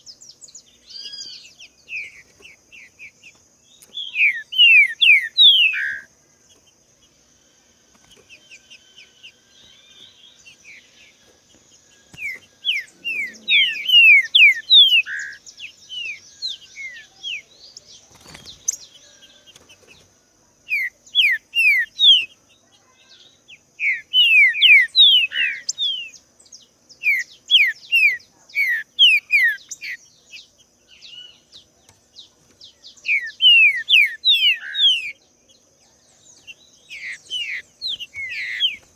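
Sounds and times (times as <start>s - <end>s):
bird singing whistled notes: 0.0s - 6.1s, 8.1s - 19.6s, 20.7s - 31.6s, 32.2s - 38.9s.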